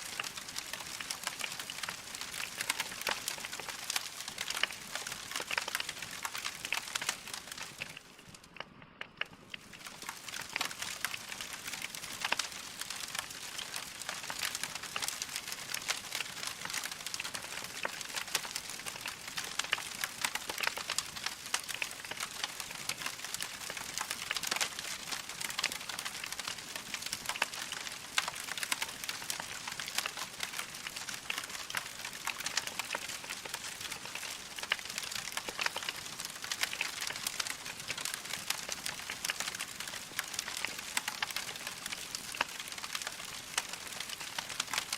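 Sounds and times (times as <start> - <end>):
log fire crackling: 0.0 - 44.9.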